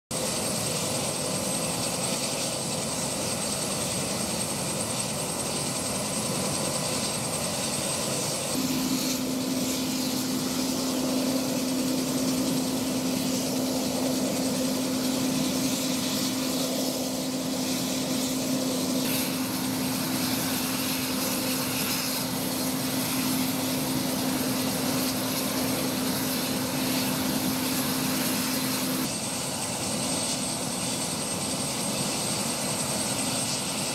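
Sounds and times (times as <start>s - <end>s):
helicopter engine and rotor: 0.1s - 33.9s
steady low hum: 0.3s - 31.0s.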